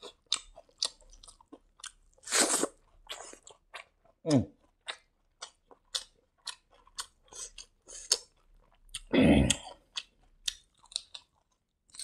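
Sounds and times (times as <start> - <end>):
chewing with mouth clicks: 0.0 - 12.0.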